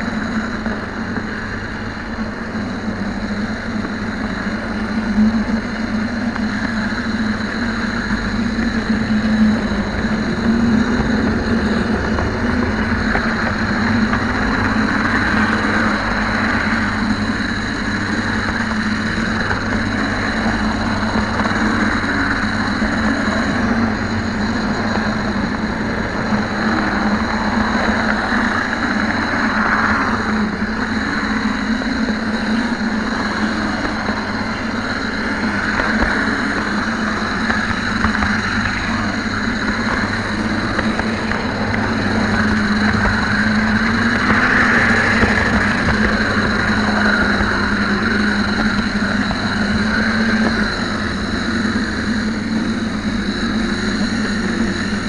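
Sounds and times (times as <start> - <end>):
model train mechanical hum: 0.0 - 55.0.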